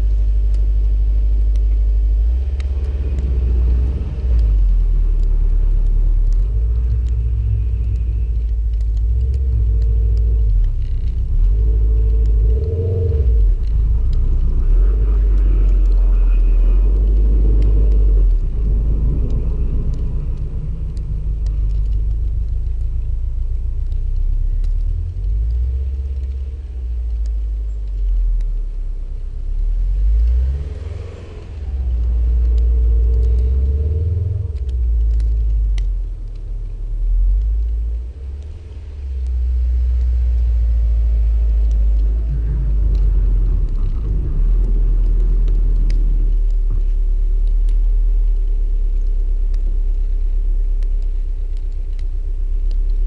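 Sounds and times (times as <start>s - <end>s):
engine revving: 0.0s - 49.1s
car engine rumbling: 0.0s - 53.0s.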